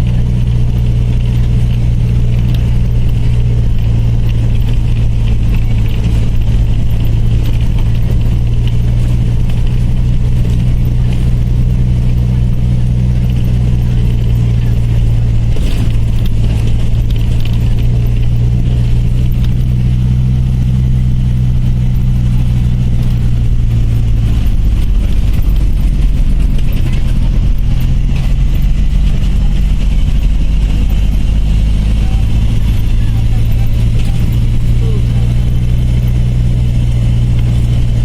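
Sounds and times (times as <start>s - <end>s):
bus engine running: 0.0s - 38.0s.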